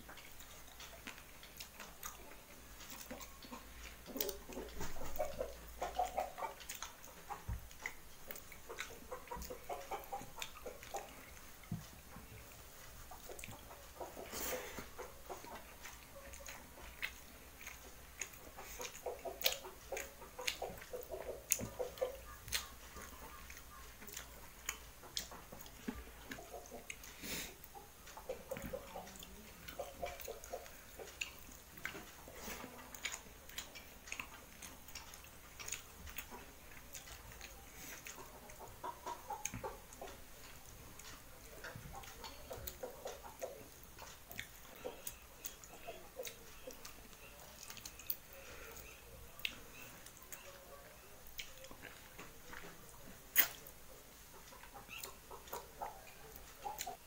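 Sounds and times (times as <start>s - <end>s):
chewing and mouth smacks: 0.0s - 57.0s.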